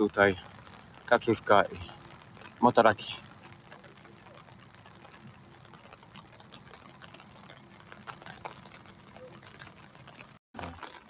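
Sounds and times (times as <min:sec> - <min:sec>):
light rain falling: 0:00.0 - 0:11.0.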